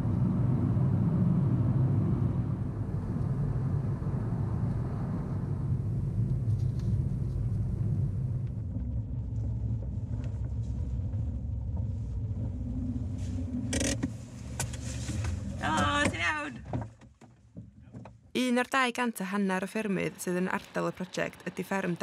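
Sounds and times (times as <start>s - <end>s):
car engine and road rumble: 0.0s - 18.3s.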